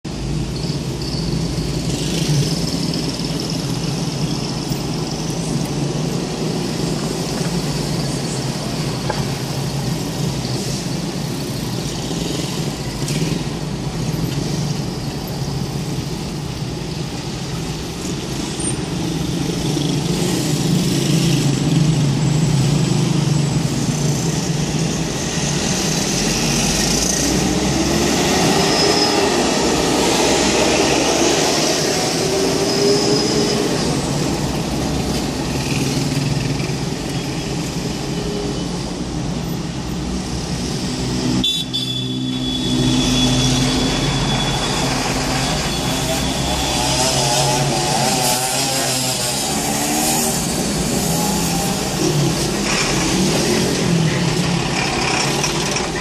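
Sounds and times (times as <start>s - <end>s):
traffic hum of engines and tyres: 0.0s - 56.0s.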